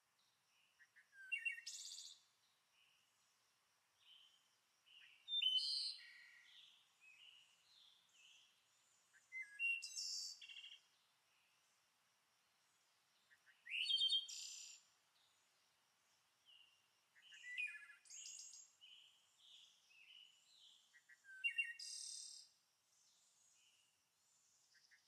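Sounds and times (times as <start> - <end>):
songbird chirping and trilling: 0.5 - 3.2, 4.0 - 11.8, 12.8 - 15.7, 16.4 - 25.0.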